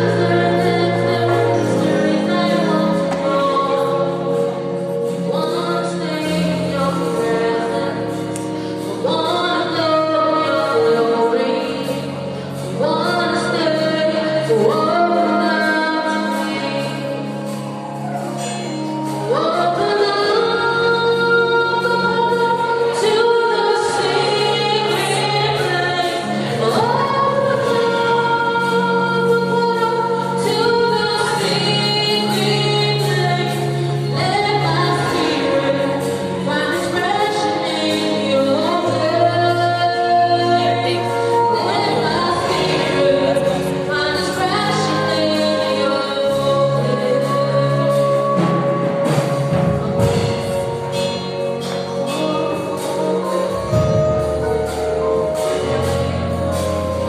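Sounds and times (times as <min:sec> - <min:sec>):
instrumental accompaniment with low notes: 0:00.0 - 0:57.0
woman singing into microphone: 0:00.0 - 0:57.0.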